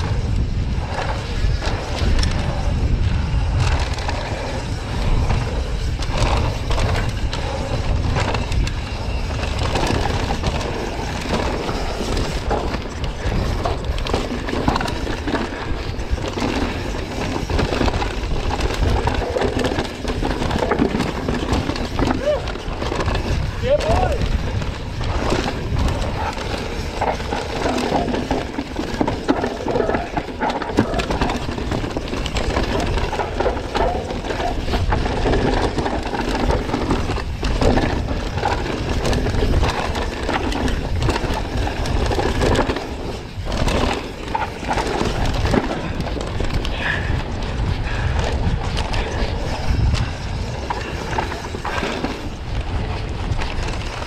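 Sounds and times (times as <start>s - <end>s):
bike rattling over bumps: 0.0s - 54.0s
wind on microphone: 0.0s - 54.0s.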